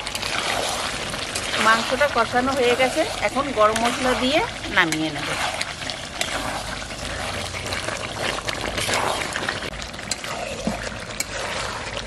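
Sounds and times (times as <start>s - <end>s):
curry sizzling and bubbling: 0.0s - 12.0s
spatula stirring: 0.0s - 12.0s.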